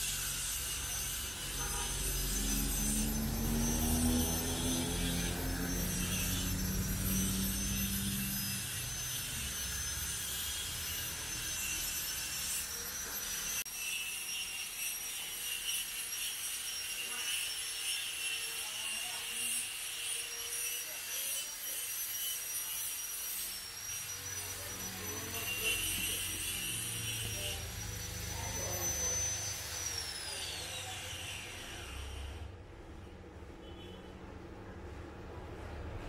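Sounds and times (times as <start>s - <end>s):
high-pitched machine whine: 0.0s - 33.1s.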